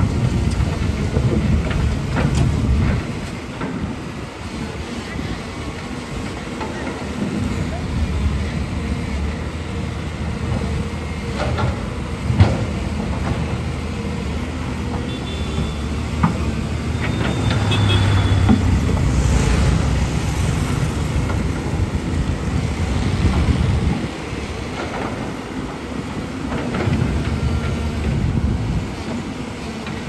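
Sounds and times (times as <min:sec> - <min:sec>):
excavator diesel engine under load: 0:00.0 - 0:30.0.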